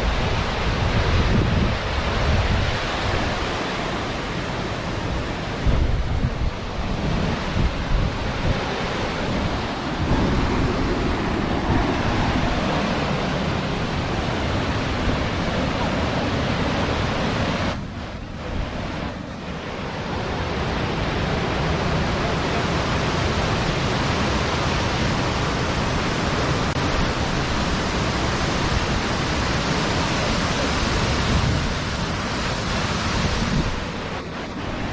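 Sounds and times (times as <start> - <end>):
waterfall rushing: 0.0 - 34.9
wind buffeting microphone: 0.0 - 34.9.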